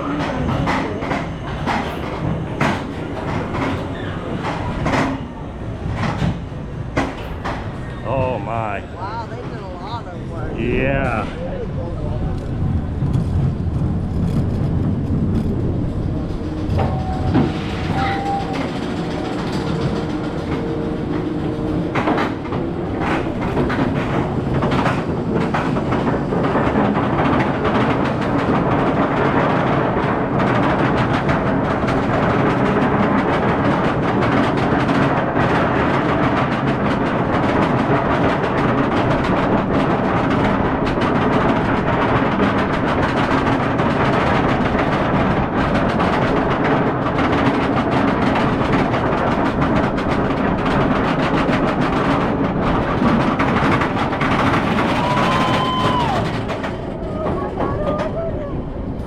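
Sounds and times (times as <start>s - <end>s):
roller coaster clicking rattle: 0.0s - 59.0s
rush of track noise: 0.0s - 59.0s.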